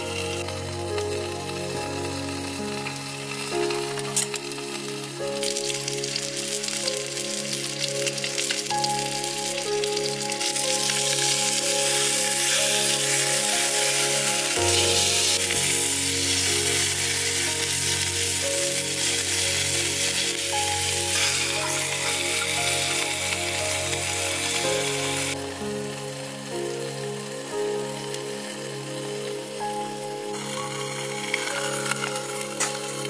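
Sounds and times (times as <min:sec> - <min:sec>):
background music: 0:00.0 - 0:33.0
meat sizzling in a frying pan: 0:00.0 - 0:33.0.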